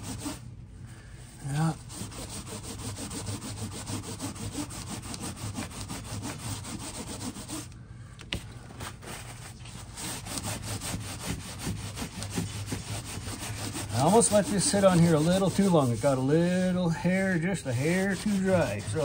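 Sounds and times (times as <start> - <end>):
paper towel rubbing leather: 0.0 - 0.4, 1.3 - 7.7, 8.7 - 19.0.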